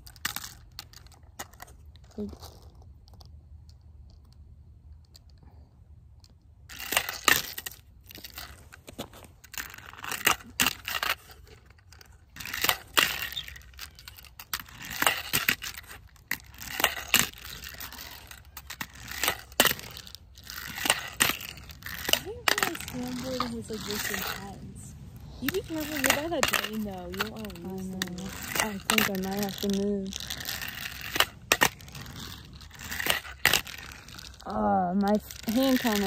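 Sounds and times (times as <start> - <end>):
small wheels rolling and scraping: 0.0 - 5.7, 6.6 - 36.0.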